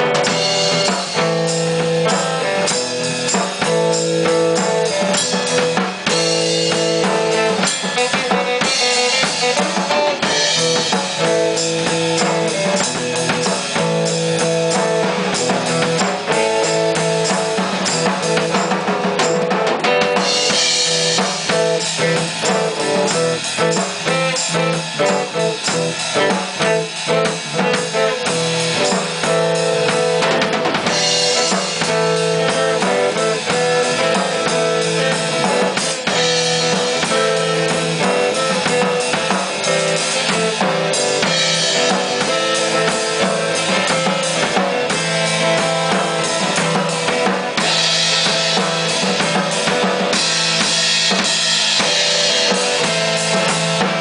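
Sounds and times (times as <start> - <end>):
drum kit beat: 0.0 - 54.0
electric bass notes: 0.0 - 54.0.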